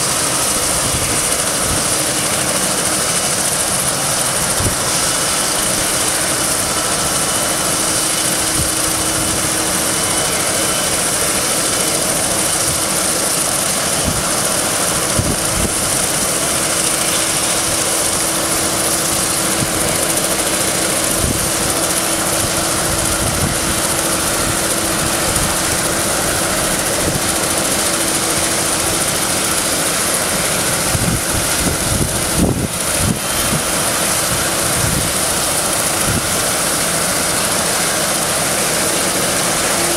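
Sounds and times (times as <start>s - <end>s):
helicopter rotor rushing: 0.0s - 39.9s
high turbine whine: 0.0s - 39.9s.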